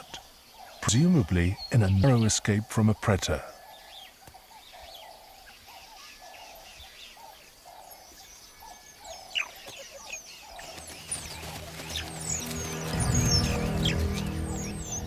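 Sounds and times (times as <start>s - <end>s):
higher bird chirps: 0.0s - 15.0s.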